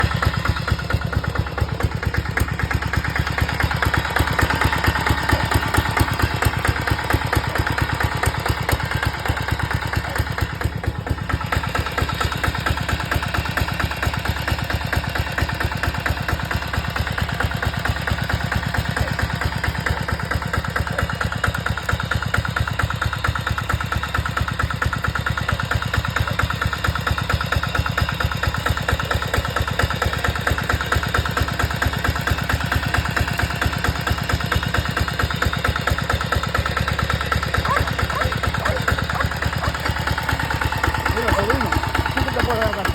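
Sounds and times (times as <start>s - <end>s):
walking tractor engine chugging: 0.0s - 42.9s.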